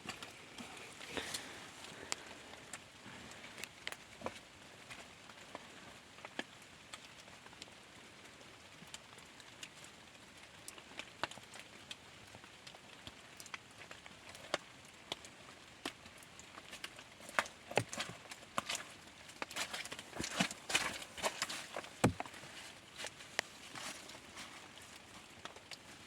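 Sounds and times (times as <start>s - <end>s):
light rain hiss: 0.0s - 26.0s
raindrops ticking on surfaces: 0.0s - 26.0s.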